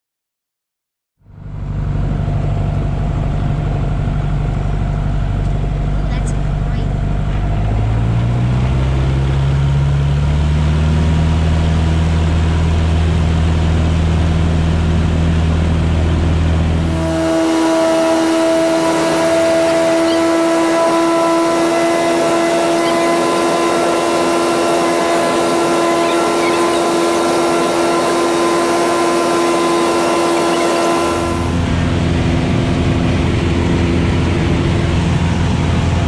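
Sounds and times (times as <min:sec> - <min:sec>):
airplane engine and propeller drone: 0:01.2 - 0:36.0
engine drone inside cabin: 0:01.2 - 0:36.0.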